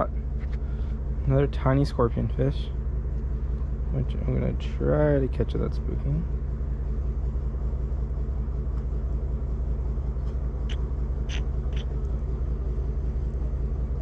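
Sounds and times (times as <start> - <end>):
low pulsing engine rumble: 0.0 - 14.0.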